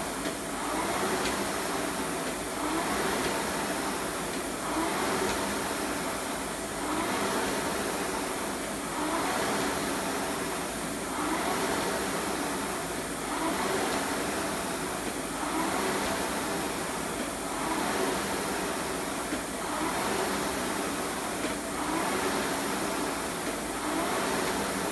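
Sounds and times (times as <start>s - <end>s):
rowing machine flywheel whirring: 0.0s - 24.9s.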